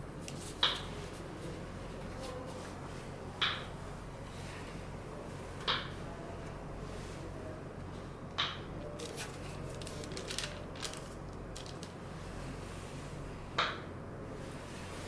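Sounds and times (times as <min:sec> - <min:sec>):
steady low hum: 0:02.8 - 0:15.0.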